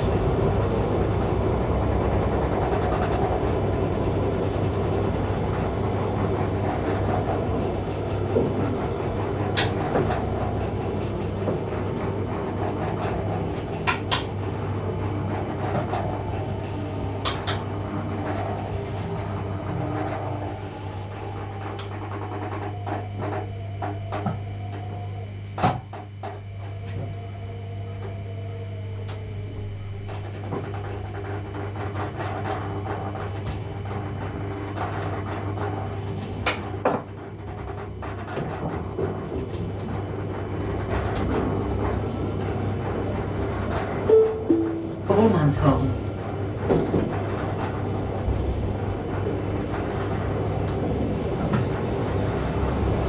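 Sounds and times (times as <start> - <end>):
faint motor whine: 0.0 - 53.0
train electrical hum: 0.0 - 53.0.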